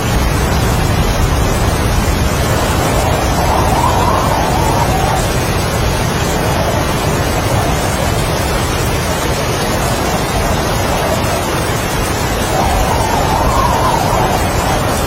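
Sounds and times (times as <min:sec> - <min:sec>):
deep rumble: 0:00.0 - 0:15.0
heavy rain: 0:00.0 - 0:15.0
strong wind gusts whistling: 0:00.0 - 0:15.0.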